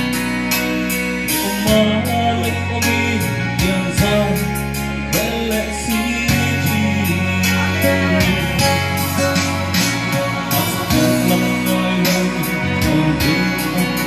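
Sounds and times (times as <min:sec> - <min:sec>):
backing track with steady beat: 0:00.0 - 0:14.0
man singing into microphone: 0:01.2 - 0:14.0.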